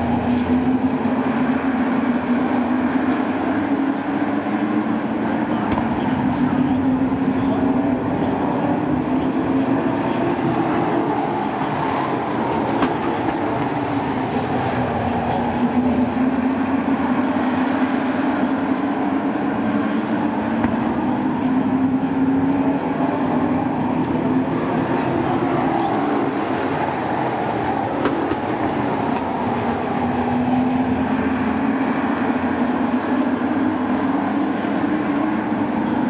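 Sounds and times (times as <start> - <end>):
racing truck engines droning: 0.0 - 36.0.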